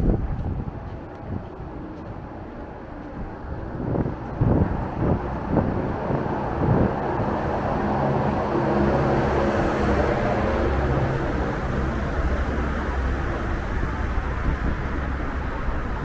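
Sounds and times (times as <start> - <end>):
vehicle engine hum: 0.0 - 16.0
wind buffeting microphone: 0.0 - 16.0.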